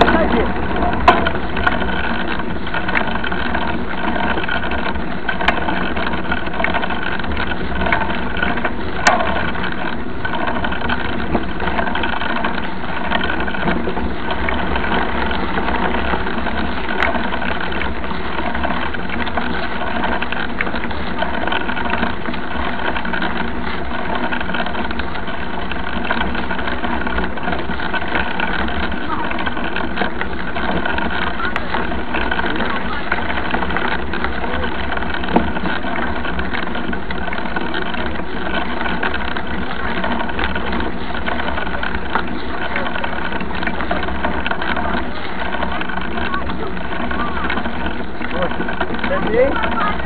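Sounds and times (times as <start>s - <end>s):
vehicle driving on dirt road: 0.0s - 50.0s.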